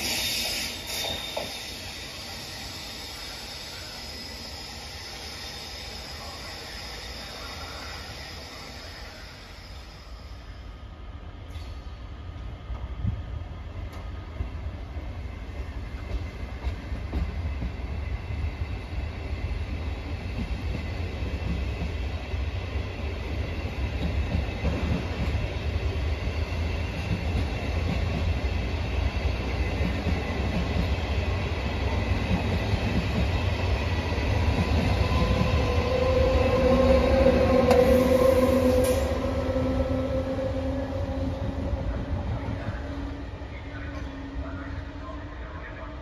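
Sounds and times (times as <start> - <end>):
train low rumble: 5.8 - 46.0.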